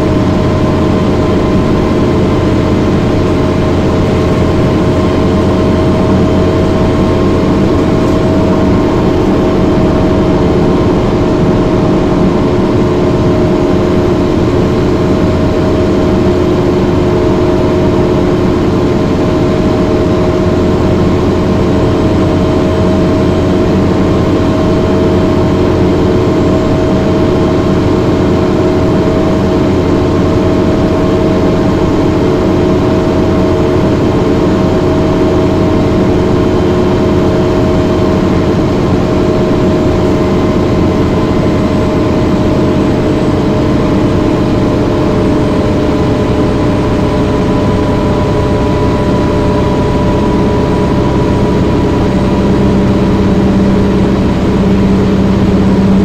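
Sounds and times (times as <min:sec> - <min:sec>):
diesel bus engine running: 0:00.0 - 0:56.0.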